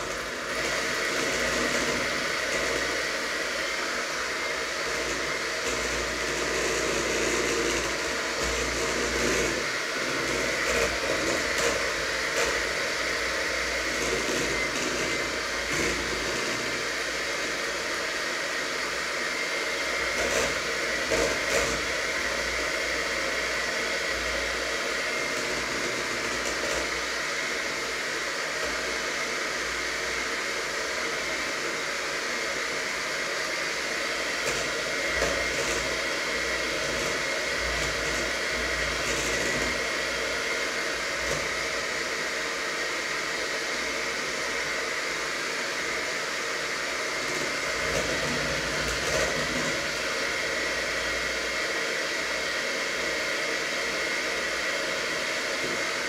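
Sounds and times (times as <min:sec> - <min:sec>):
fan running with high whine: 0:00.0 - 0:56.0.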